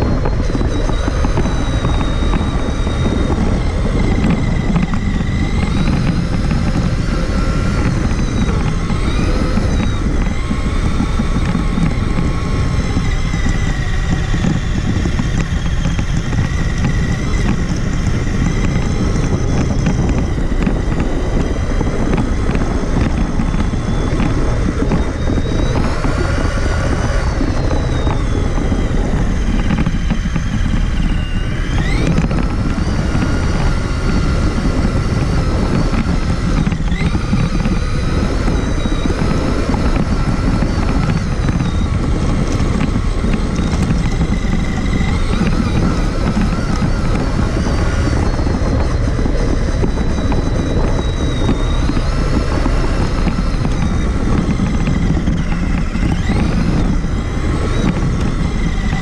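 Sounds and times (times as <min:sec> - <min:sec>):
heavy rumble: 0:00.0 - 0:59.0
toy truck electric motor whining: 0:00.0 - 0:59.0.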